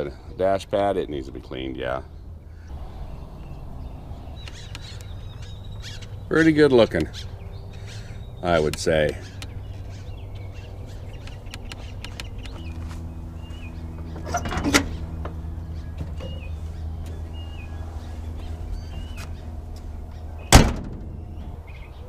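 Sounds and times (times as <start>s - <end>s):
low mechanical hum: 0.0s - 22.0s
small birds chirping: 0.0s - 22.0s.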